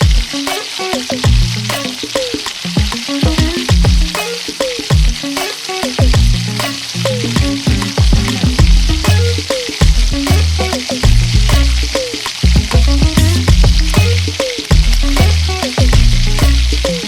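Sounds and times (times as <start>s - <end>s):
chicken sizzling in a pan: 0.0s - 17.0s
sharp pops of frying: 0.0s - 17.0s
background music with bass: 1.1s - 4.2s, 5.9s - 17.0s.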